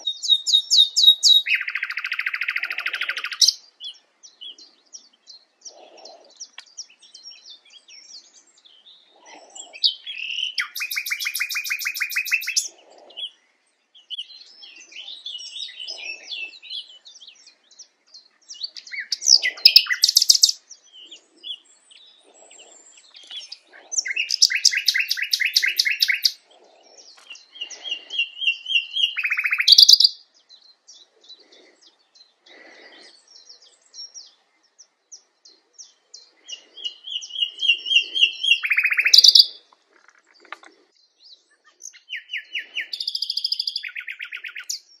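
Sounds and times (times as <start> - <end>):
nightingale singing: 0.0 - 45.0.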